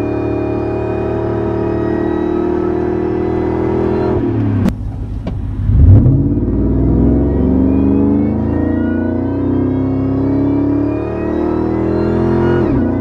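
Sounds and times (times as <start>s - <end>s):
engine at full throttle: 0.0s - 13.0s
supercharger whine: 0.0s - 13.0s.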